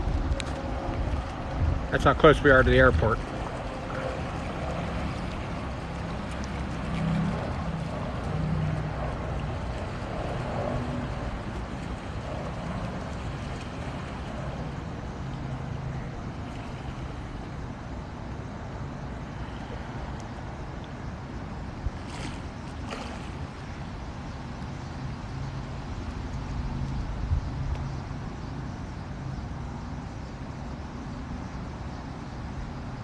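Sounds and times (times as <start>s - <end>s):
river rushing: 0.0s - 26.7s
jet airliner rumble overhead: 0.0s - 33.0s.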